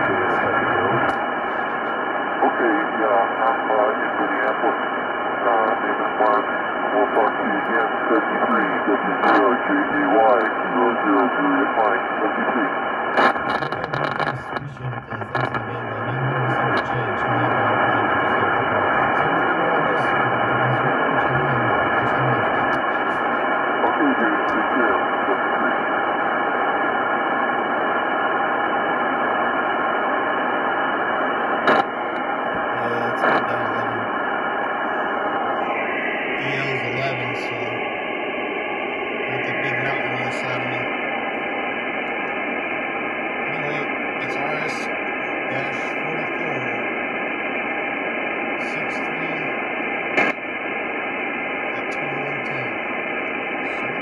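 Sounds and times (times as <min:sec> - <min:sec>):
faint low radio tones: 0:00.0 - 0:54.0
radio receiver hiss: 0:00.0 - 0:54.0.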